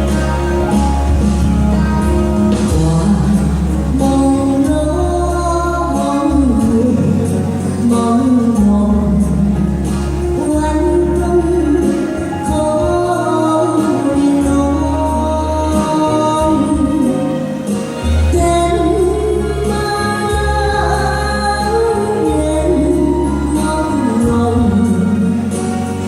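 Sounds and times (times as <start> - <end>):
musical accompaniment with bass: 0.0 - 26.0
woman singing pop ballad: 0.0 - 26.0.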